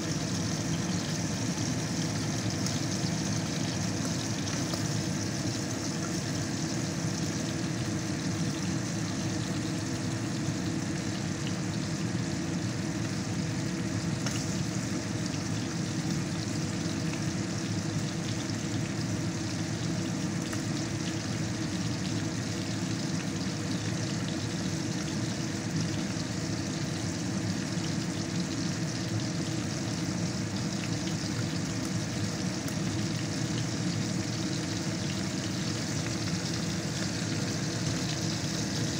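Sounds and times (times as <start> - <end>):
low even hum: 0.0 - 38.9
steak sizzling in a pan: 0.0 - 38.9.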